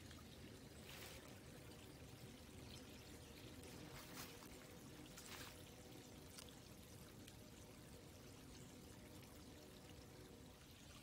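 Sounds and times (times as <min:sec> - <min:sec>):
creek flowing: 0:00.0 - 0:11.0.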